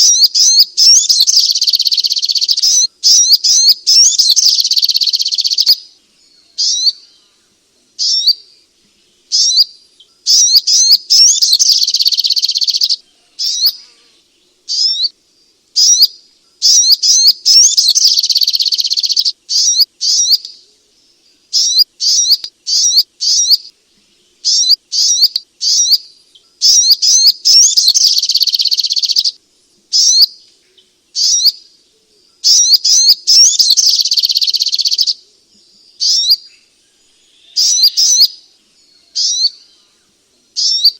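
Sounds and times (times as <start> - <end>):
bird chirping and trilling: 0.0 - 7.4, 8.0 - 8.6, 9.2 - 14.1, 14.7 - 15.2, 15.8 - 31.7, 32.3 - 35.2, 35.8 - 40.0, 40.6 - 40.9.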